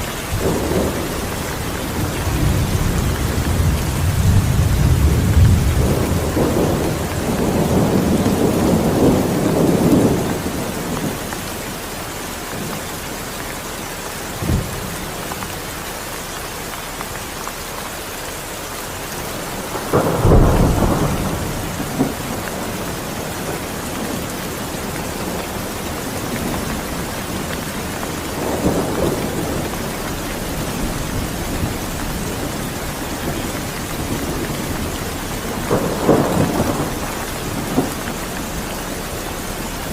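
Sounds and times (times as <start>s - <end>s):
thunder rumbling: 0.0s - 13.3s, 14.2s - 15.5s, 18.9s - 39.9s
steady rain falling: 0.0s - 39.9s.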